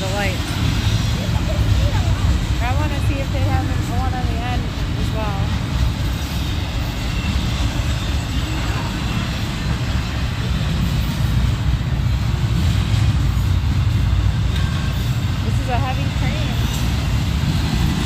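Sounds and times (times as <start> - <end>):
freight train rumbling on rails: 0.0 - 18.0.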